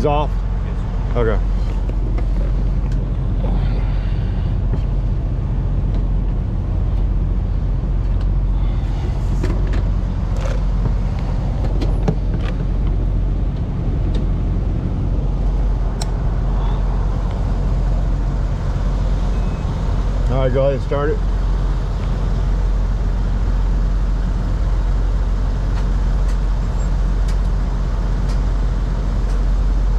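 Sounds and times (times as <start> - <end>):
truck engine idling: 0.0 - 29.9.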